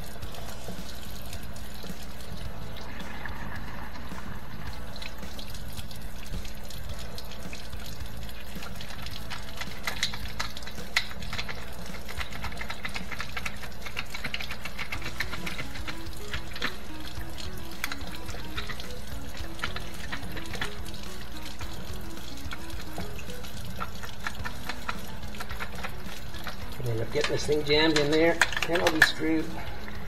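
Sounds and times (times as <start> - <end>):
water pouring and trickling: 0.0 - 30.0.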